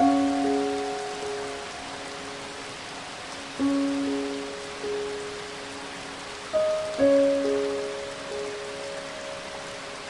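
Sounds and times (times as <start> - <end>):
soft instrumental music: 0.0 - 10.0
steady rain hiss: 0.0 - 10.0.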